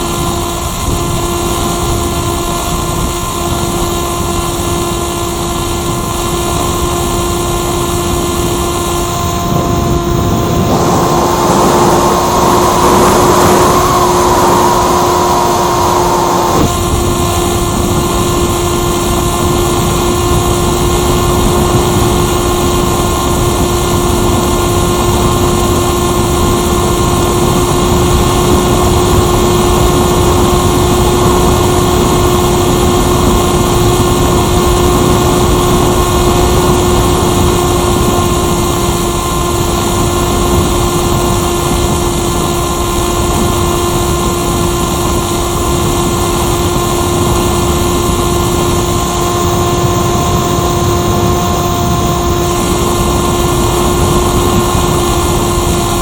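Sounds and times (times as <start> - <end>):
electric motor whine: 0.0 - 56.0
rushing air noise: 0.0 - 56.0.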